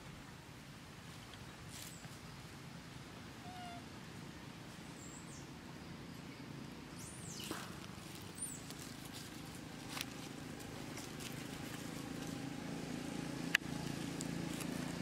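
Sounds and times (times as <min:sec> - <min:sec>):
steady low background hum: 0:00.0 - 0:15.0.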